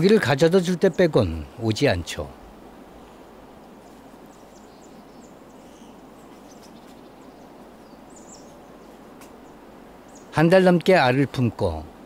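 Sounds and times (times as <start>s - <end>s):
distant small birds chirping: 0.0s - 12.0s
steady low hiss: 0.0s - 12.0s.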